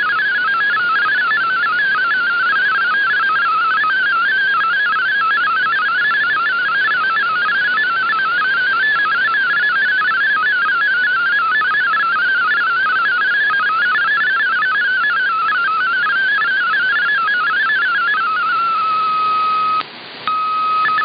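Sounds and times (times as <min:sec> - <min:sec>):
warbling digital data tones: 0:00.0 - 0:21.0.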